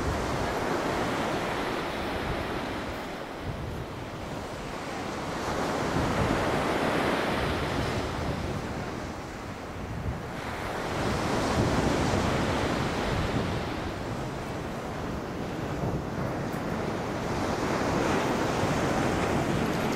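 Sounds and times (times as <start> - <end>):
sea surf washing on shore: 0.0 - 19.9
wind buffeting microphone: 0.0 - 19.9.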